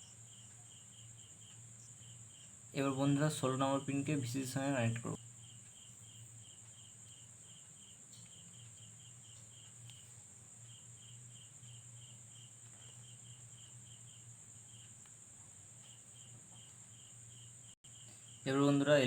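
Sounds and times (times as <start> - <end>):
crickets chirping: 0.0 - 19.0
steady high hiss: 0.0 - 19.0.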